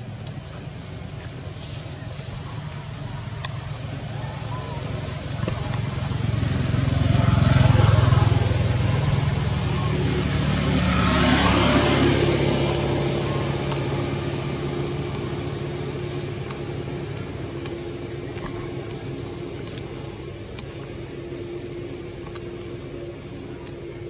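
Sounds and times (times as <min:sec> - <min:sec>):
vehicle engine running: 0:00.0 - 0:24.0
vehicle passing by: 0:00.0 - 0:24.0.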